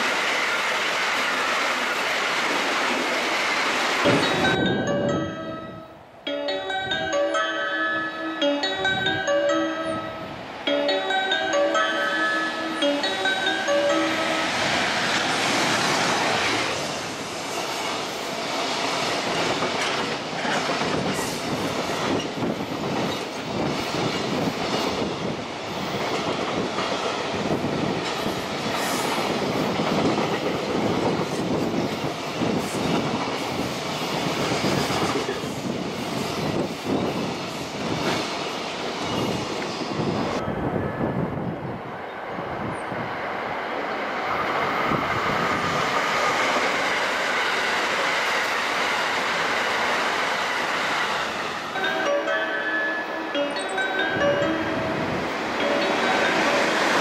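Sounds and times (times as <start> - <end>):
electric locomotive passing: 0.0 - 57.0
freight train wheels rumbling: 0.0 - 57.0.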